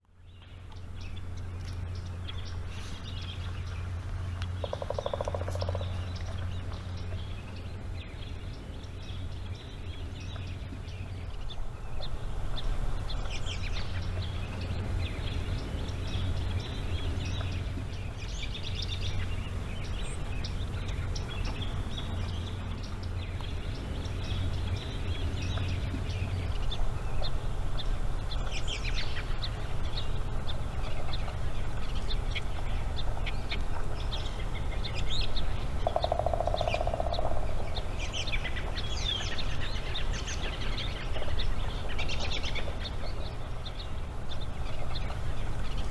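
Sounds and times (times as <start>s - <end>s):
steady low hum: 0.0s - 45.9s
wild birds chirping and calling: 0.8s - 45.9s.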